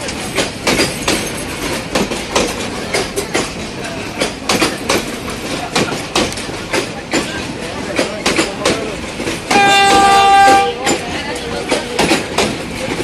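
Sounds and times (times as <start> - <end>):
train rushing rumble: 0.0 - 13.0
wheel clacks over rail joints: 0.0 - 13.0.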